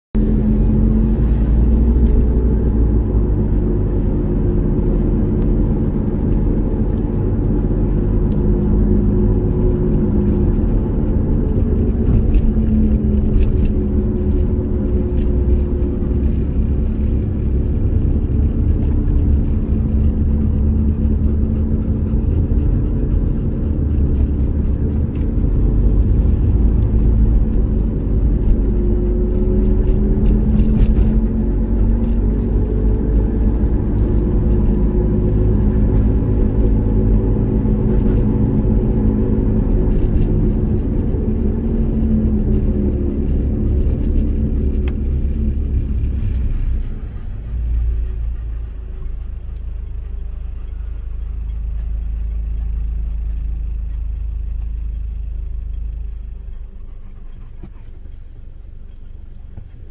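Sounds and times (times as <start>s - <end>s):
car engine and tyres rumbling: 0.1s - 59.9s.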